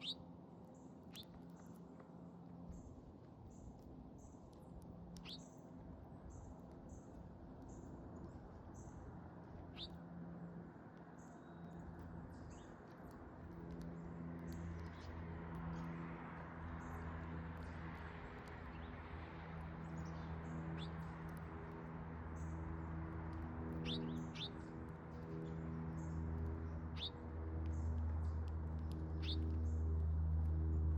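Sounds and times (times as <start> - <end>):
small birds ticking and chirping: 0.0 - 10.2, 10.9 - 30.9
low mechanical hum: 0.0 - 30.9.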